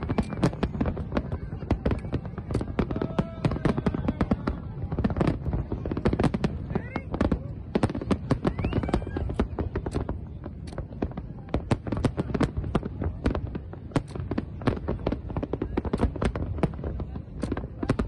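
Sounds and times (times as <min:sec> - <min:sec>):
fireworks bangs: 0:00.0 - 0:18.0
steady low rumble: 0:00.0 - 0:18.0.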